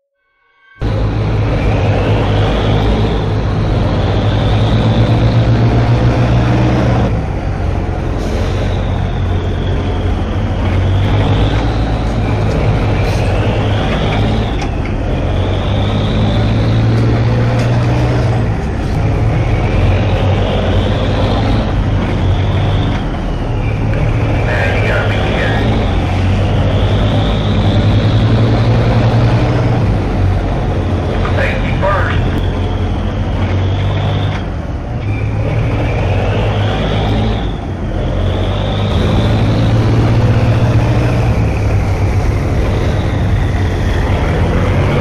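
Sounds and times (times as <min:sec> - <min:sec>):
diesel engine humming with whine: 0:00.6 - 0:45.0.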